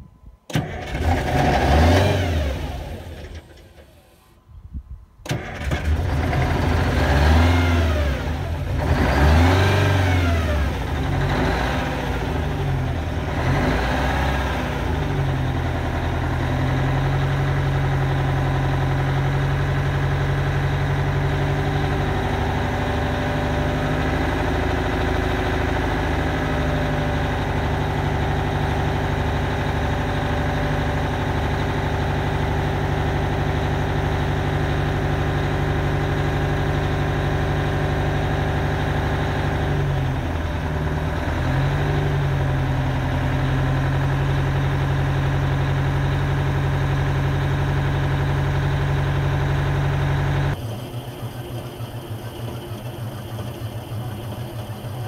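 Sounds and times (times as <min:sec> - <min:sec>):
diesel engine revving and idling: 0:00.5 - 0:04.3, 0:05.2 - 0:55.0.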